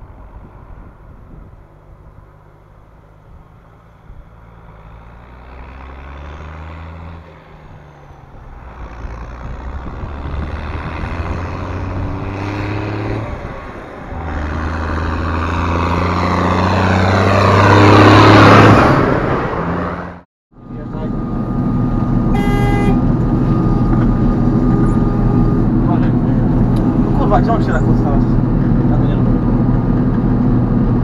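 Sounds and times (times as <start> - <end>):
tractor diesel engine passing: 0.0 - 31.0.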